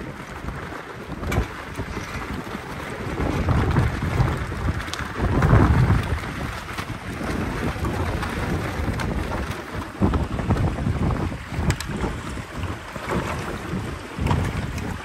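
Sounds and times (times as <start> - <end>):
sail flapping in wind: 0.0 - 15.0
wind buffeting microphone: 0.0 - 15.0.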